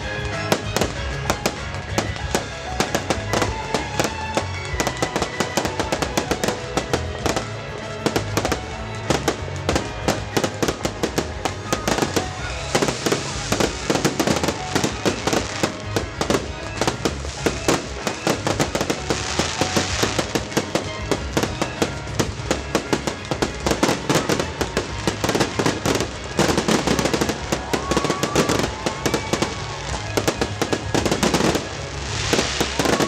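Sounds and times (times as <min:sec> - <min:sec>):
fireworks bangs and crackling: 0:00.0 - 0:33.0
music playing: 0:00.0 - 0:33.0.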